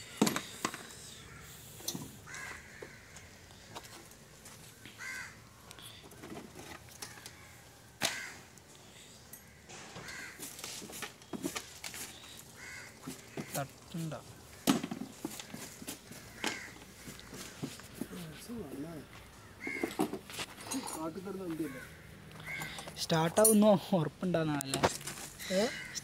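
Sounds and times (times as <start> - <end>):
crows cawing: 0.0 - 23.0, 25.2 - 26.0.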